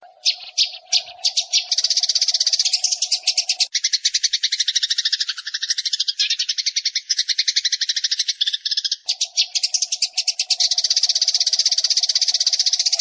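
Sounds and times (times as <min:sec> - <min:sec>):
sparrows chattering: 0:00.0 - 0:13.0.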